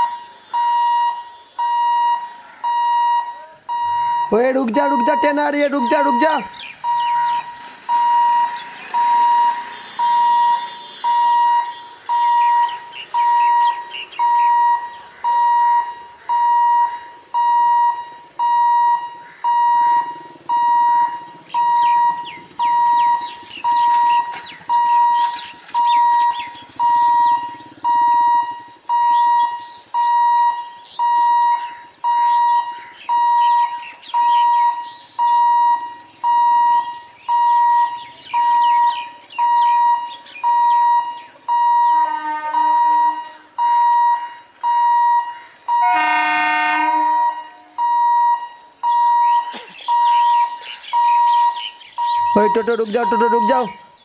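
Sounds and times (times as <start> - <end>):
faint chirps: 0.0 - 42.0, 47.3 - 54.0
level crossing buzzer beeping: 0.0 - 53.9.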